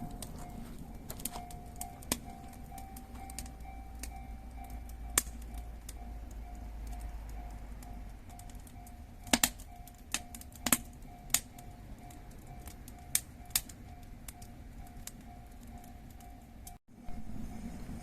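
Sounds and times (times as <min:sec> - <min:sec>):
wood fire crackling and popping: 0:00.0 - 0:16.8.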